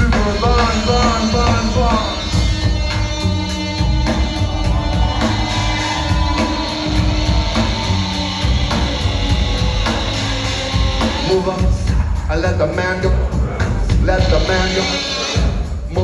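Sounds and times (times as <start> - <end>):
live rock band playing: 0.0 - 16.0
steady cymbal beat: 0.0 - 16.0.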